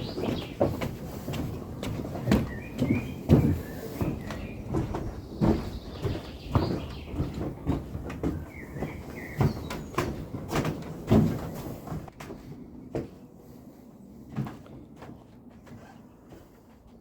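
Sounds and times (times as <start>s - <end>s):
footsteps on wooden stairs: 0.0s - 17.0s.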